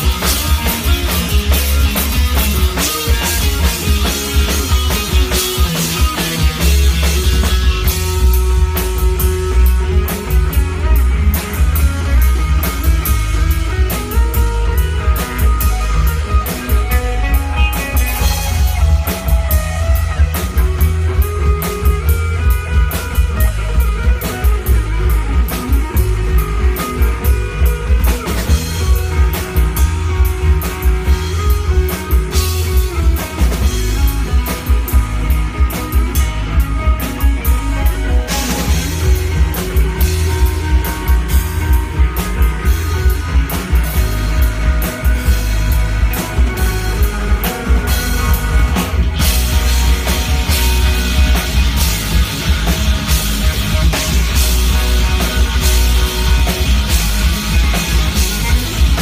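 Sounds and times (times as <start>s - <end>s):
dense drumming: 0.0s - 59.0s
electric guitar lines: 0.0s - 59.0s.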